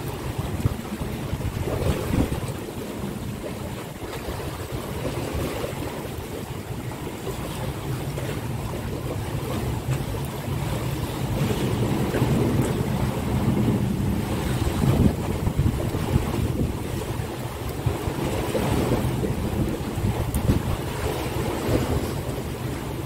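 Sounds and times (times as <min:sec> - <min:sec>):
water sloshing against seawall: 0:00.0 - 0:23.0
wind buffeting microphone: 0:00.0 - 0:23.0.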